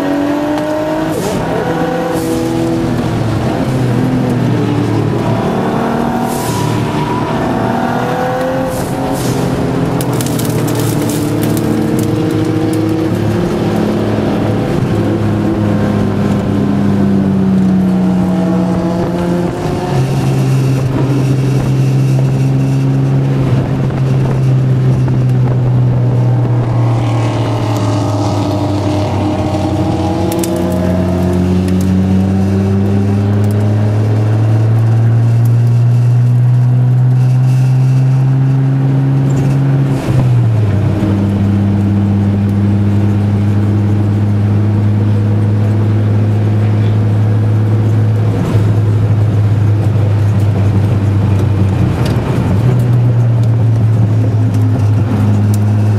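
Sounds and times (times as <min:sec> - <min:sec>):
car engine under load: 0:00.0 - 0:55.9.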